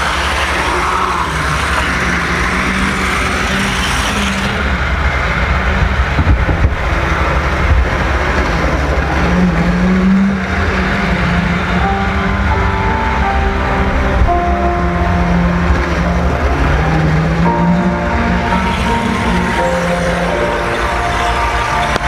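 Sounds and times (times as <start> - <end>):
model train wheels rumbling on rails: 0.0 - 12.1, 15.3 - 22.0.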